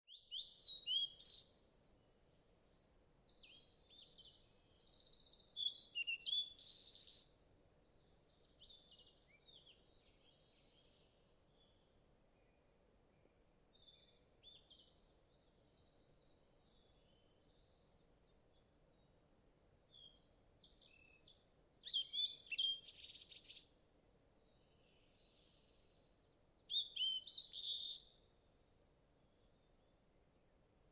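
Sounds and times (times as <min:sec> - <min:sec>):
faint background hiss: 0:00.1 - 0:30.9.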